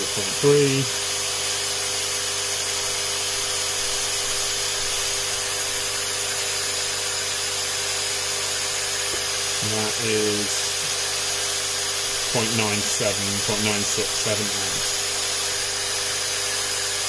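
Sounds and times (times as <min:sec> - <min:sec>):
air pump humming: 0:00.0 - 0:17.0.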